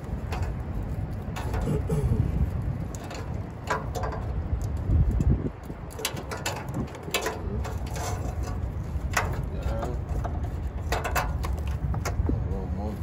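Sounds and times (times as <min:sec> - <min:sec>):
hand tools clicking and clunking: 0:00.0 - 0:12.3
wind rumble on microphone: 0:00.0 - 0:13.0.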